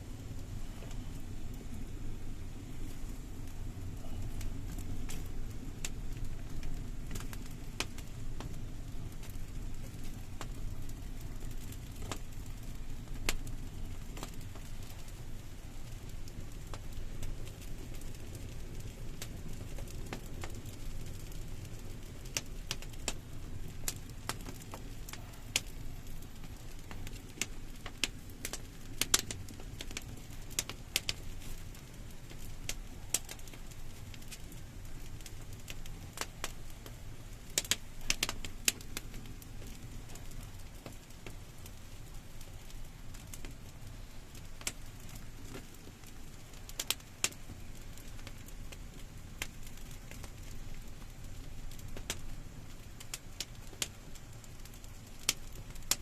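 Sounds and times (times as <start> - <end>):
low rumble of burning: 0.0 - 56.0
wood fire crackling and popping: 0.0 - 56.0.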